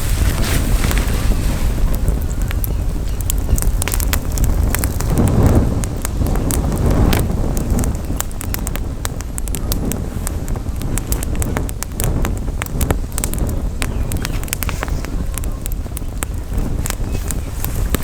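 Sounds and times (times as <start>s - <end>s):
campfire crackling: 0.0s - 18.0s
wind rumbling on microphone: 0.0s - 18.0s.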